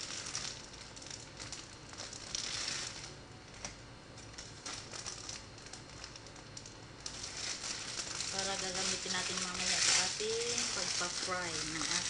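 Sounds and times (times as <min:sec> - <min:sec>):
plastic bag crinkling and rustling: 0:00.0 - 0:12.0.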